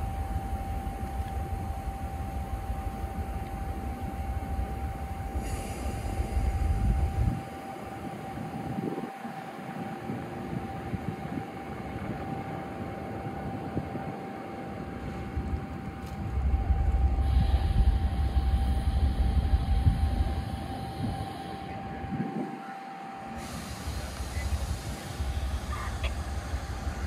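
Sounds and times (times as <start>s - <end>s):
locomotive high whine: 0.0s - 27.0s
locomotive rumble: 0.0s - 27.0s.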